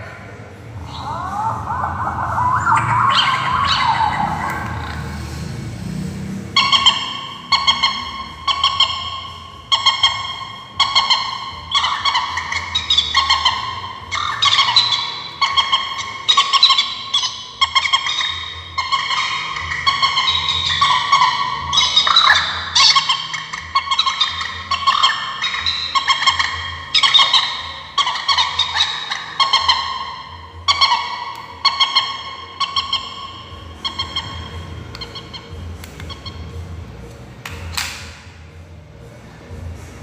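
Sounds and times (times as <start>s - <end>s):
recorded bird calls from speaker: 0.0s - 5.6s, 6.6s - 36.7s.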